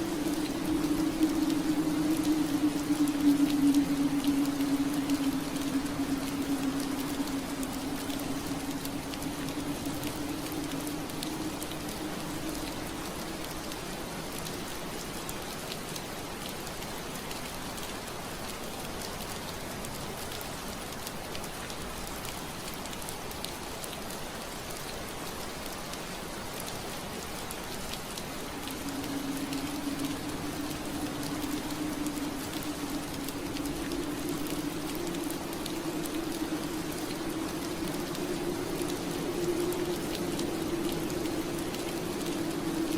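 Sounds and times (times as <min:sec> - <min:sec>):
rain pattering on window glass: 0:00.0 - 0:42.9.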